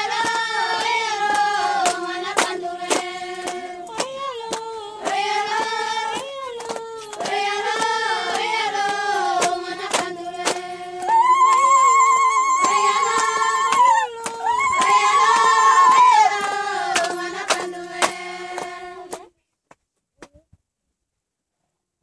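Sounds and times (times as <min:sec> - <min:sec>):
voices singing together: 0:00.0 - 0:19.3.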